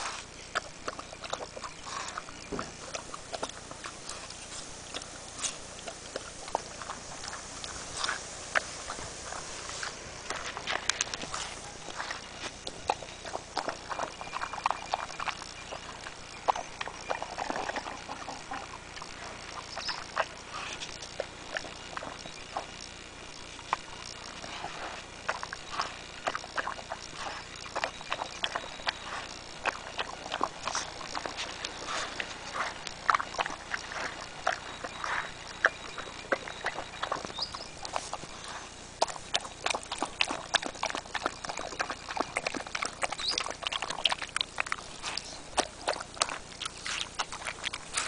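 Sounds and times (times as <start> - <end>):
dog chewing watermelon: 0.0 - 48.0.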